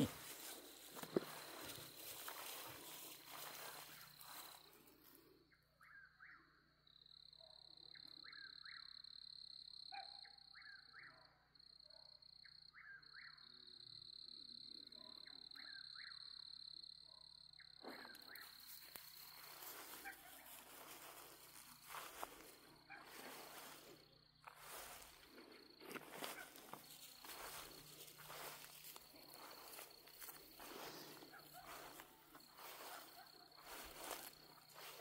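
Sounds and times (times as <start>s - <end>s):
insect trill: 0.0s - 35.0s.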